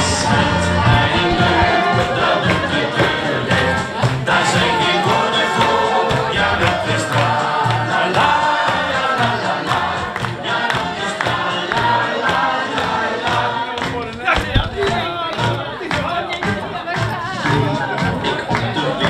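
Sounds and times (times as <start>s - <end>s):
group singing over a beat: 0.0s - 19.0s.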